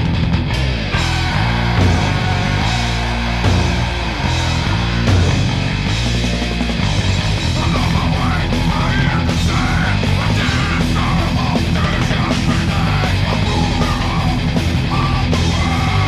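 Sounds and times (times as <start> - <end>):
bass guitar: 0.0 - 16.0
distorted guitars: 0.0 - 16.0
drums: 0.0 - 16.0
singer shouting: 0.8 - 16.0.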